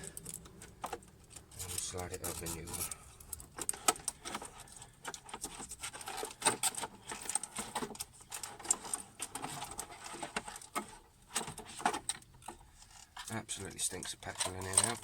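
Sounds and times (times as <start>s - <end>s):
light clicks and rustles of handling: 0.0s - 15.0s.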